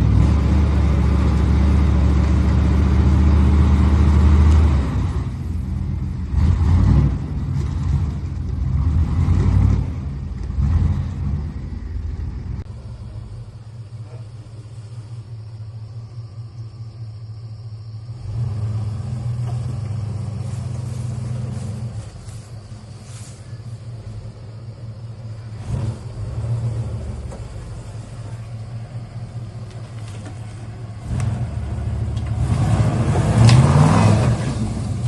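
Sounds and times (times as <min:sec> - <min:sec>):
car engine revving: 0:00.0 - 0:15.2, 0:18.0 - 0:23.3, 0:23.9 - 0:35.0.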